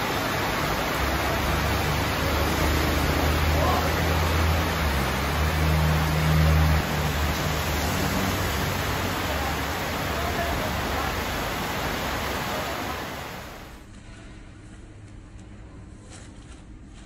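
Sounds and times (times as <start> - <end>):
steady rushing noise: 0.0 - 15.1.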